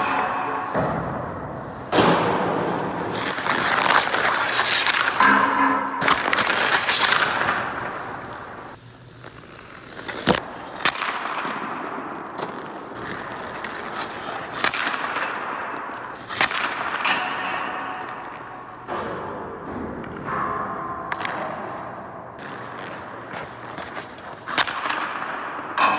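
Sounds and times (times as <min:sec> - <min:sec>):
puck striking boards: 0:00.0 - 0:08.8, 0:10.1 - 0:25.9
stick hitting puck: 0:00.0 - 0:08.8, 0:10.0 - 0:25.9
skates scraping on ice: 0:00.0 - 0:20.2, 0:21.1 - 0:25.9.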